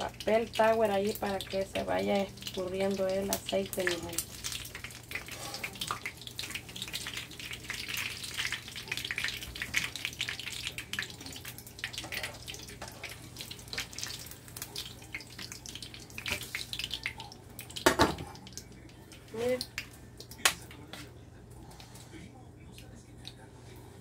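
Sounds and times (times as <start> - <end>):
fritters sizzling in hot oil: 0.0 - 19.6.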